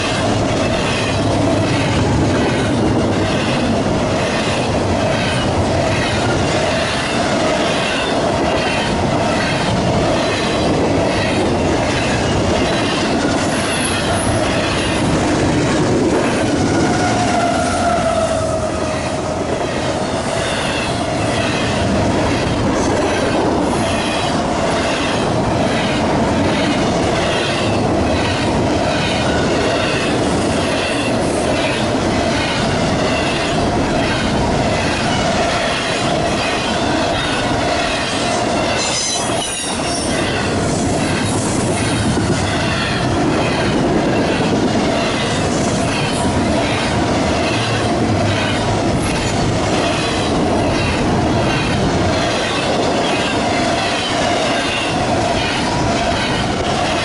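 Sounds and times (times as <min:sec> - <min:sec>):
train wheels clicking over rail joints: 0:00.0 - 0:57.0.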